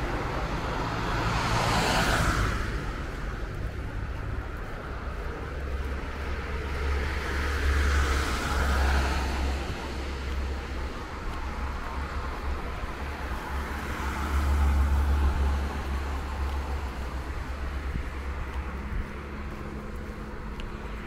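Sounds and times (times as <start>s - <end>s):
car passing: 0.0s - 21.0s
low traffic rumble: 0.0s - 21.0s
vehicle passing: 0.0s - 21.0s.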